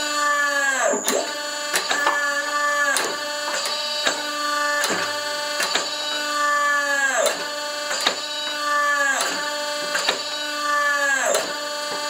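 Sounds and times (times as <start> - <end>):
hydraulic pump motor whining: 0.0 - 12.0.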